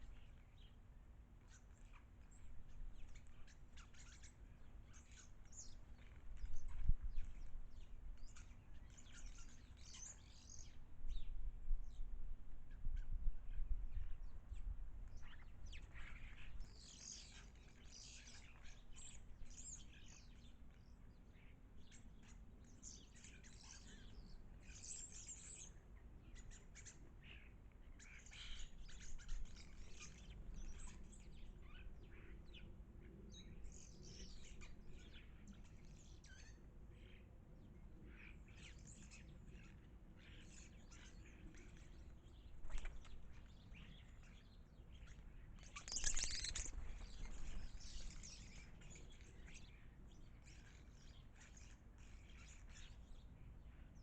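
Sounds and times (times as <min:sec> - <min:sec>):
small birds chirping: 0:00.0 - 0:12.1, 0:12.7 - 0:54.0.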